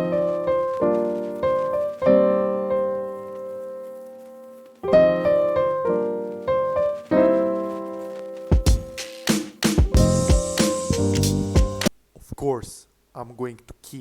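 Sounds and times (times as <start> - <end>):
soft piano chords: 0.0 - 11.9.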